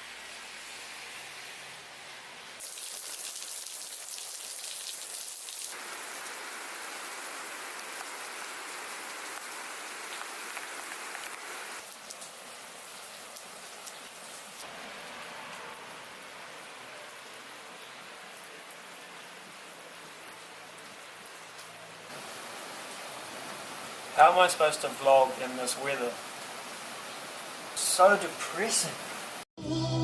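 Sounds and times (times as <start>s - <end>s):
rain falling: 0.0s - 29.5s.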